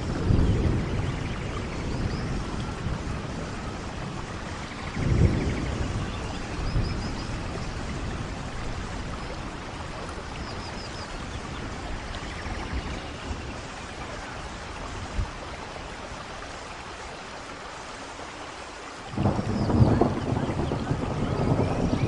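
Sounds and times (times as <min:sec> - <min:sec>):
low gusty rumbles: 0:00.0 - 0:16.6, 0:19.1 - 0:22.0
rain falling: 0:00.0 - 0:22.0.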